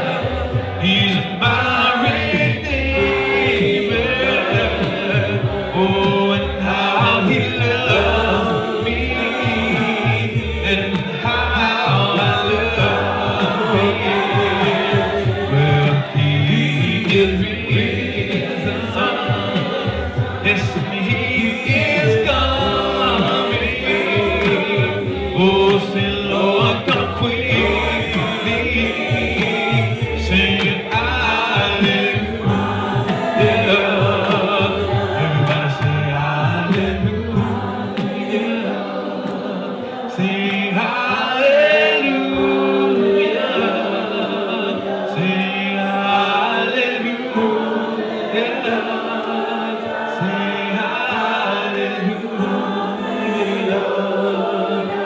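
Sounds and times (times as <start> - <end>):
choir singing gospel song: 0.0 - 55.0
musical backing: 0.0 - 55.0.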